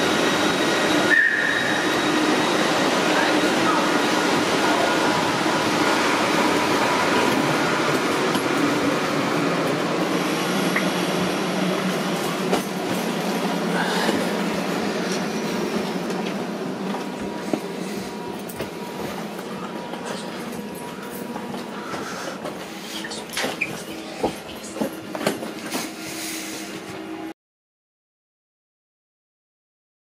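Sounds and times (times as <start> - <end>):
train rushing noise: 0.0 - 27.3.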